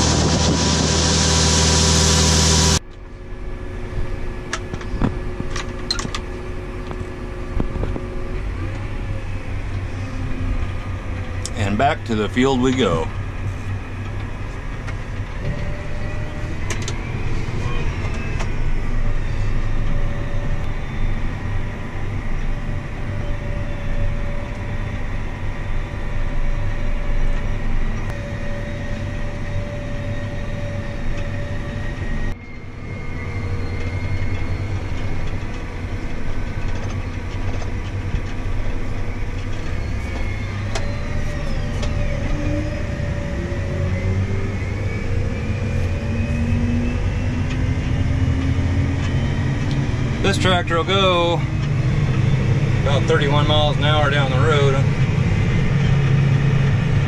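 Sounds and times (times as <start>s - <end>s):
rising whine: 0.0s - 57.0s
tractor engine running: 0.0s - 57.0s.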